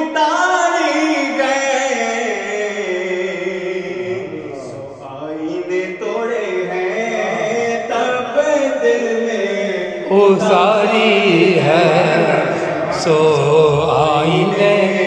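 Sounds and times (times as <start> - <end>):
devotional chanting: 0.0 - 15.0.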